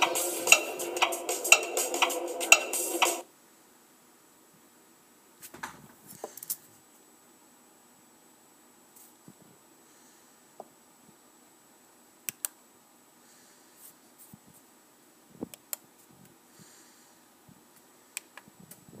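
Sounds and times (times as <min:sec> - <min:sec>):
low room hiss: 0:00.0 - 0:19.0.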